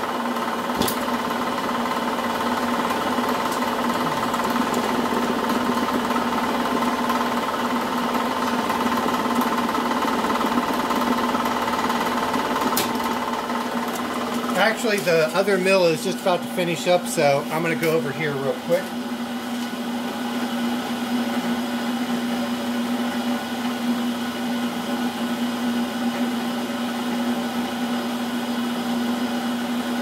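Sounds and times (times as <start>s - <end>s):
milling machine running: 0.0s - 30.0s.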